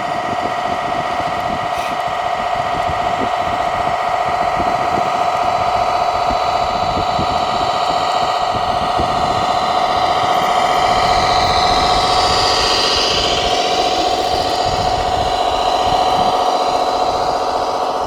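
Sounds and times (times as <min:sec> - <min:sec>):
electric motor and gear whine: 0:00.0 - 0:18.0.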